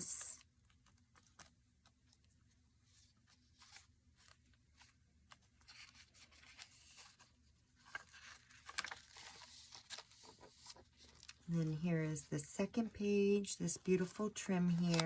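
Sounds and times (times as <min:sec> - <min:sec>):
paper rustling: 0:02.8 - 0:15.0.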